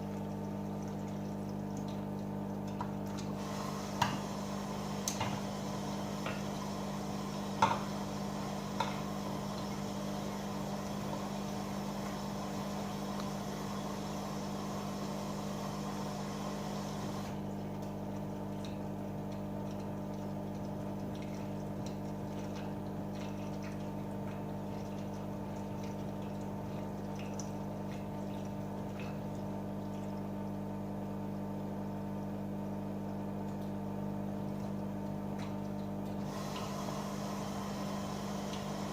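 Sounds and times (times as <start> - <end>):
washing machine hum: 0.0 - 38.9
water running into washing machine: 0.0 - 38.9.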